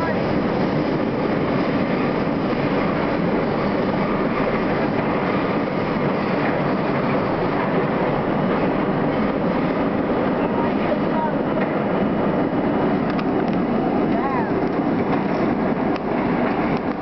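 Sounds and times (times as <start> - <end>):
subway train running through tunnel: 0.0 - 17.0.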